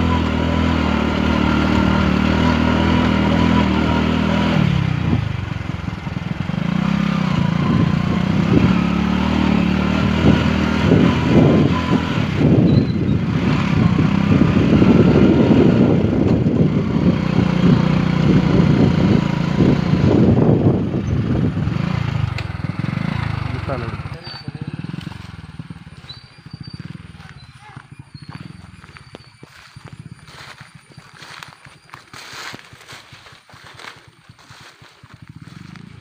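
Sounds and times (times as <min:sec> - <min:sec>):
bumping and rattling over ruts: 0:00.0 - 0:36.0
motorcycle engine running: 0:00.0 - 0:36.0.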